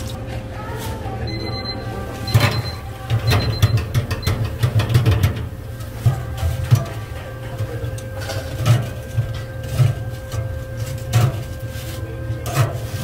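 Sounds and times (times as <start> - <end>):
low hum of kitchen equipment: 0.0 - 13.0.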